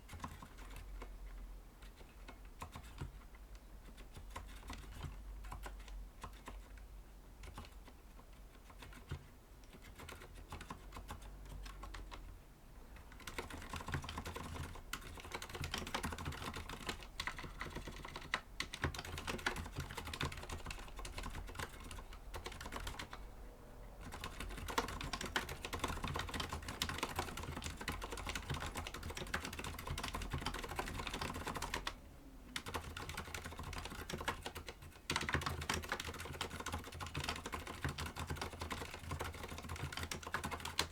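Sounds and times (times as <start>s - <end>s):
typing on mechanical keyboard: 0.0s - 1.1s, 1.8s - 6.8s, 7.4s - 12.3s, 13.0s - 23.4s, 24.0s - 32.0s, 32.6s - 40.9s.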